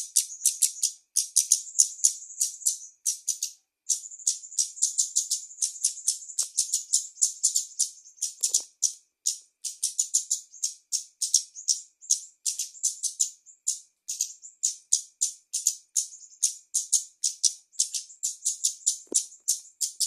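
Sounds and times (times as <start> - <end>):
bird chirping rapidly: 0.0 - 20.0.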